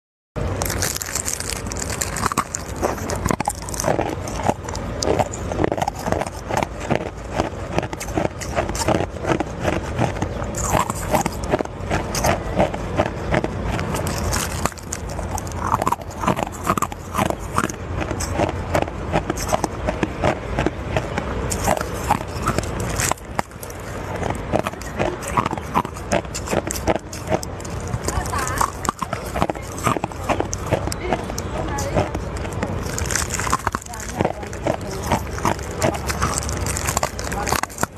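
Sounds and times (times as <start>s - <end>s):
ice being chewed crunching: 0.4s - 37.9s.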